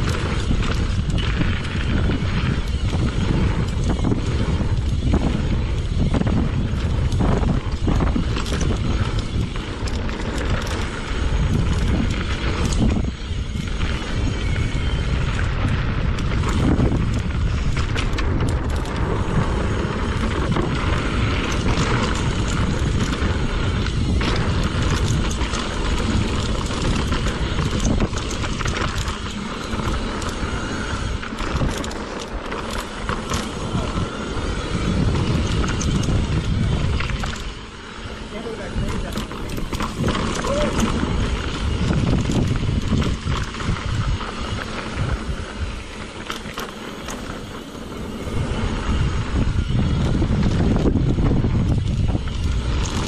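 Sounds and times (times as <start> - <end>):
bike rattling and knocking: 0.0 - 53.0
tyres rolling over dirt: 0.0 - 53.0
wind buffeting microphone: 0.0 - 53.0.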